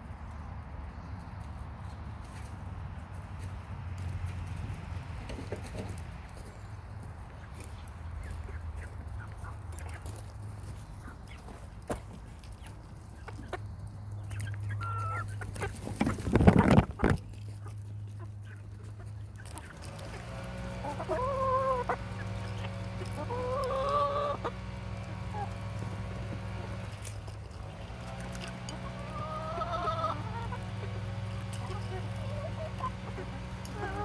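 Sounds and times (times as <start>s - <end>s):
hens clucking: 4.4s - 34.0s.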